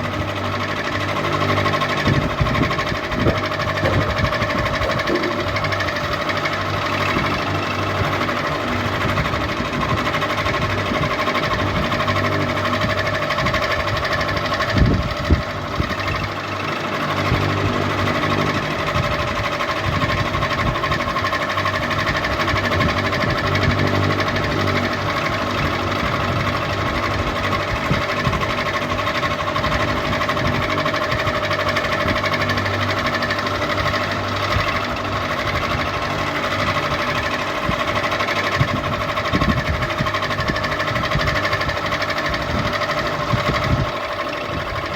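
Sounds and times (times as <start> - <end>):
ceiling fan humming and rattling: 0.0 - 44.9.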